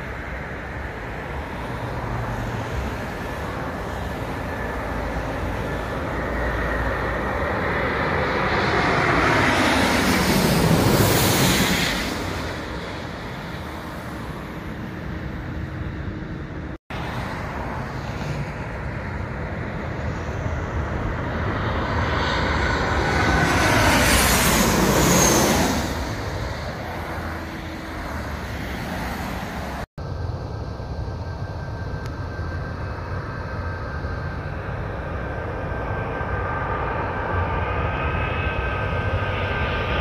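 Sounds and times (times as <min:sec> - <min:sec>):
jet airliner roar overhead: 0:00.0 - 0:40.0
jet engine whine: 0:00.0 - 0:40.0.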